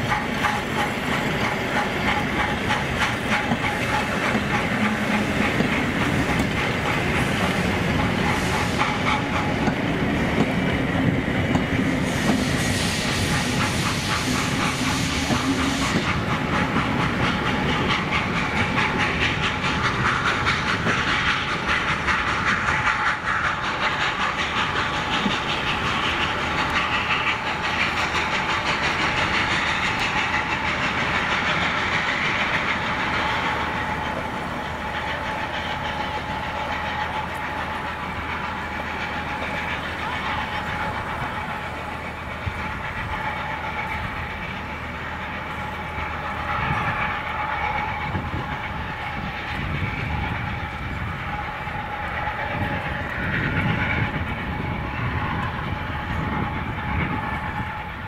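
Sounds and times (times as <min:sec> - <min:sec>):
hissing: 0:00.0 - 0:58.0
train wheels clacking over rail joints: 0:00.0 - 0:58.0.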